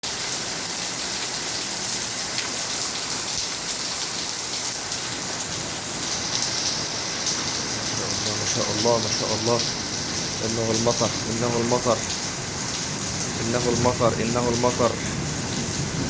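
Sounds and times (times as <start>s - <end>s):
heavy rain hissing: 0.0s - 16.0s
raindrop ticks: 2.3s - 15.8s.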